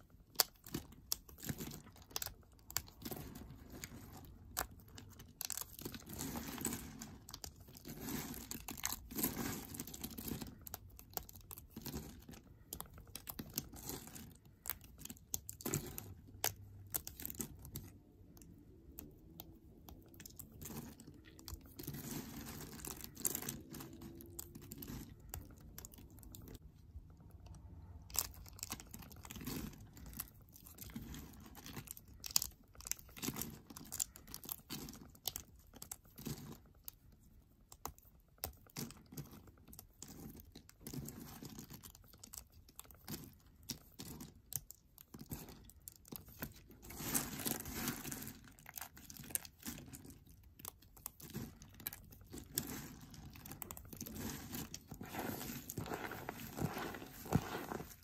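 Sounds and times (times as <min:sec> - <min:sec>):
crunchy soap flakes crackling: 0:00.0 - 0:58.0.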